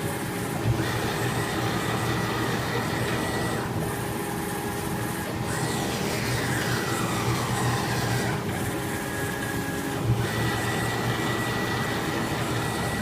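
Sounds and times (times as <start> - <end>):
laser cutter motors whining: 0.0 - 13.0
steady machine hum: 0.0 - 13.0.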